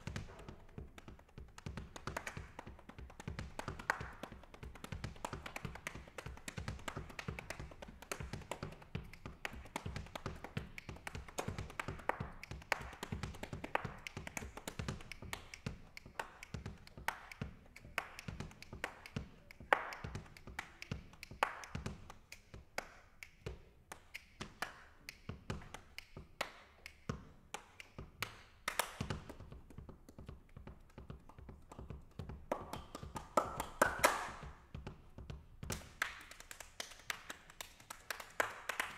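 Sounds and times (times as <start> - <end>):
hand claps: 0.0 - 38.9.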